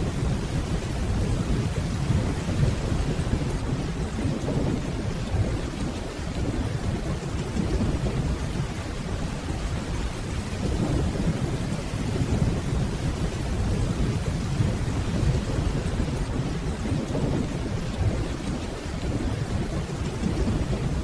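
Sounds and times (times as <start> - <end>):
distant thunder rumble: 0.0 - 21.0
steady rainfall: 0.0 - 21.0.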